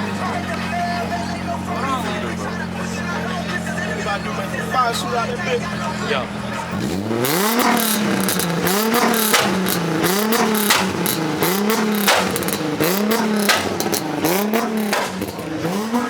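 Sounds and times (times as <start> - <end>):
car engine revving: 0.0 - 16.0
sharp exhaust cracks: 0.0 - 16.0.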